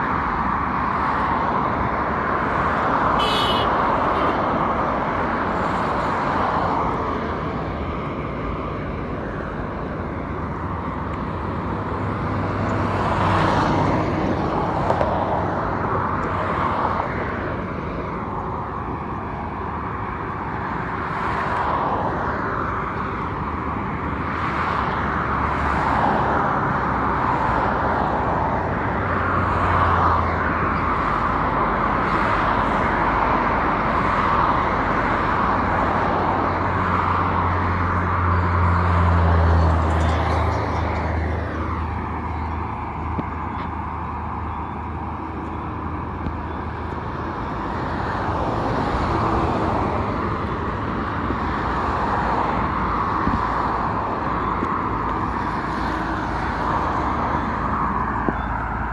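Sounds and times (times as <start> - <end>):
cars passing: 0.0 - 58.9
highway traffic humming: 0.0 - 58.9.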